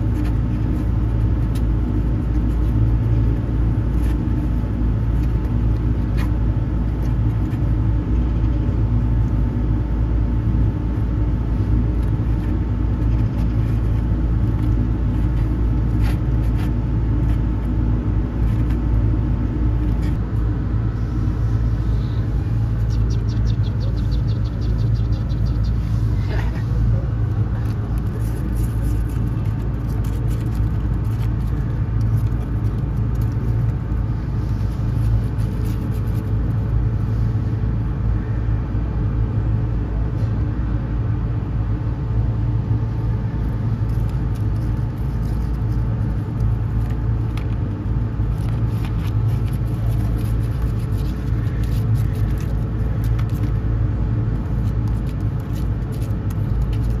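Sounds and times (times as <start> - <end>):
kittens scratching on cardboard: 0.0 - 40.5, 41.1 - 57.0
low motor rumble: 0.0 - 57.0.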